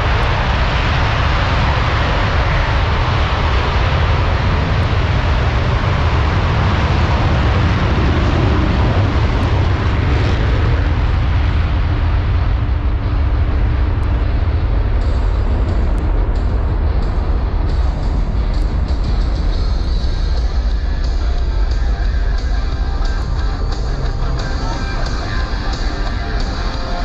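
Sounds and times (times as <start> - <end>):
jets taking off with afterburners: 0.0 - 27.0.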